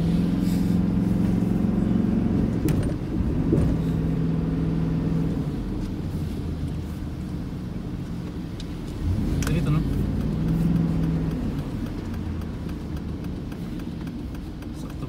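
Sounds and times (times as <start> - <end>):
car engine hum: 0.0 - 15.0
tyre noise on wet road: 0.0 - 15.0.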